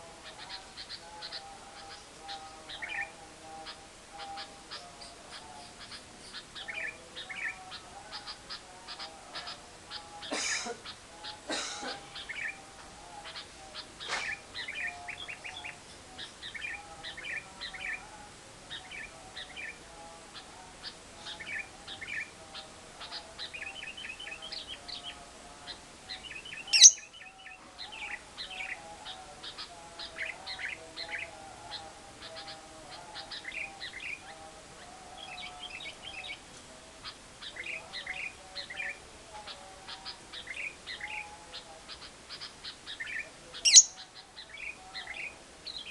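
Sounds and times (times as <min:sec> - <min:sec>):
lovebirds chirping: 0:00.0 - 0:45.9.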